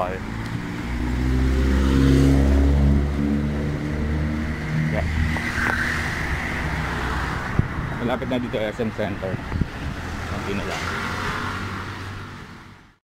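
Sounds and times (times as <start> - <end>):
pickup truck engine passing: 0.0 - 12.4
street traffic noise: 0.0 - 13.0.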